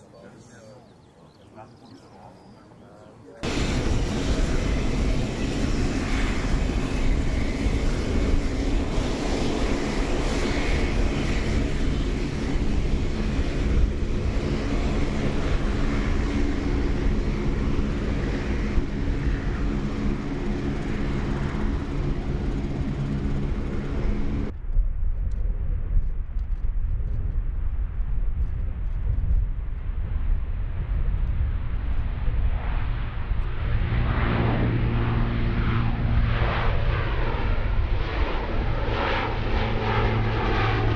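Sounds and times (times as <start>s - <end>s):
turboprop engines droning: 0.0s - 40.9s.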